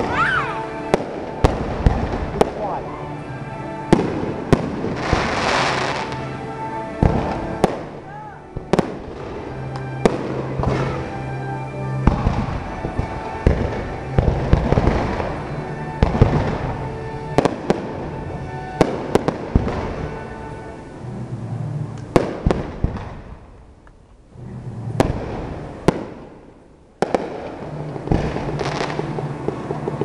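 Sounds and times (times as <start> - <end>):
fireworks bangs: 0.0 - 30.0
music playing: 0.0 - 30.0.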